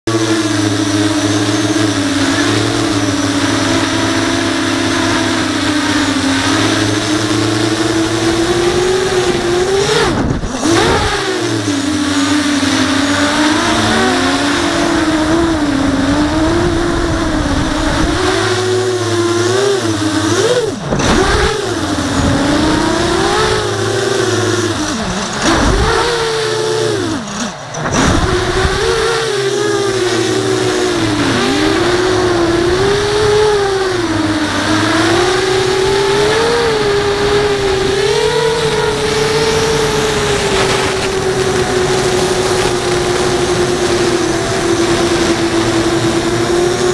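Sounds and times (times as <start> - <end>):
quadcopter propellers whining: 0.0 - 46.9.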